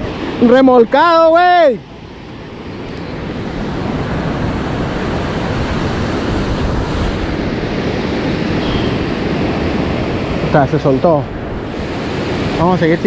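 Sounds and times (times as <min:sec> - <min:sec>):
surf washing on shore: 0:00.0 - 0:13.0
wind on microphone: 0:02.0 - 0:13.0.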